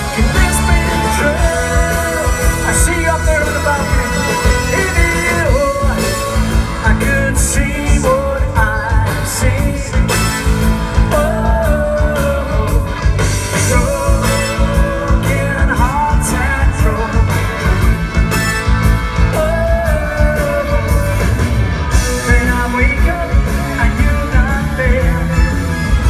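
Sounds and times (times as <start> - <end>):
electric guitars: 0.0 - 26.0
man singing: 0.0 - 26.0
steady drum beat: 0.0 - 26.0.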